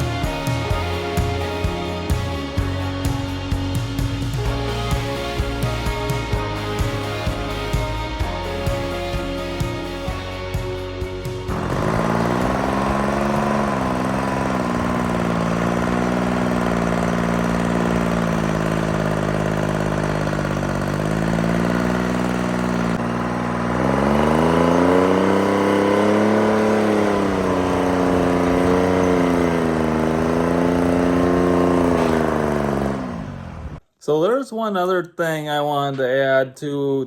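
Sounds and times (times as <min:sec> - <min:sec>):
diesel engine revving: 0:00.0 - 0:33.8.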